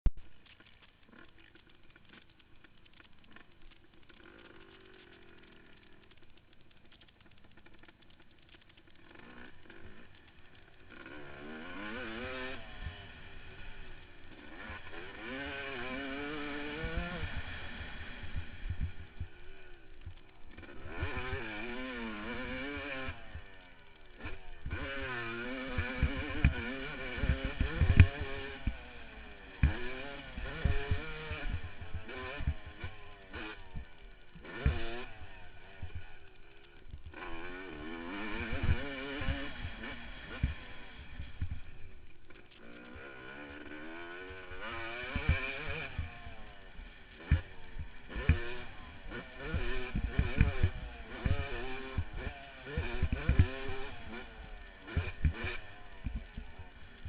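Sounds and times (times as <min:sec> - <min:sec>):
motocross bike engine revving: 0:00.4 - 0:57.0.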